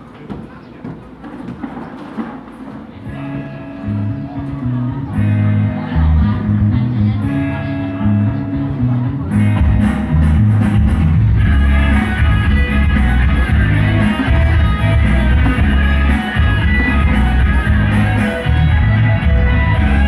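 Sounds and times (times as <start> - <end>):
loud music with heavy bass: 3.1 - 20.0.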